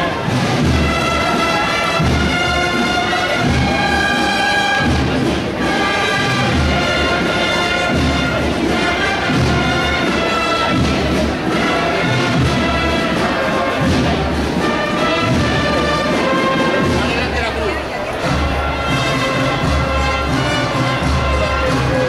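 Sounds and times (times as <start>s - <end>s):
brass band playing march: 0.0s - 22.0s.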